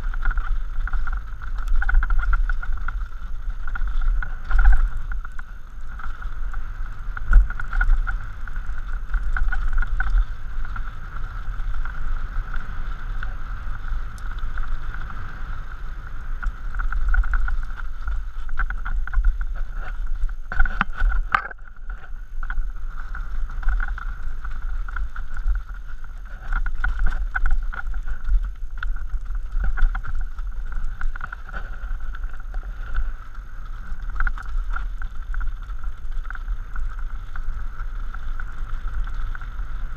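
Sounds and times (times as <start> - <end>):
bike rattling and knocking: 0.0 - 39.9
tyre rumble: 0.0 - 39.9
wind rushing on microphone: 0.0 - 39.9.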